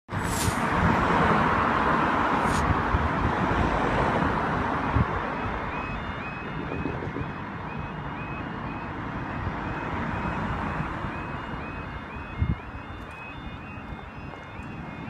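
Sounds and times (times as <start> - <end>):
cars passing: 0.1 - 15.0
level crossing warning alarm: 1.4 - 15.0.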